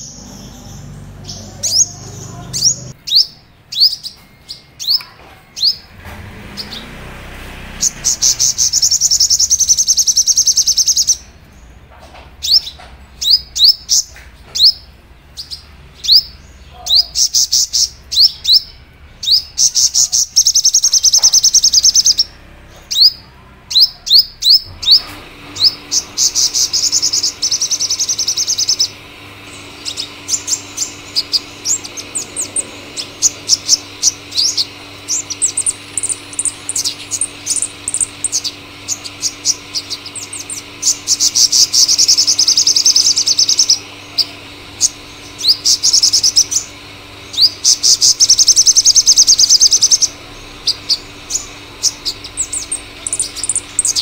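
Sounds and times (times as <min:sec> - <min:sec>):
bird singing trills and chirps: 0:00.0 - 0:54.0.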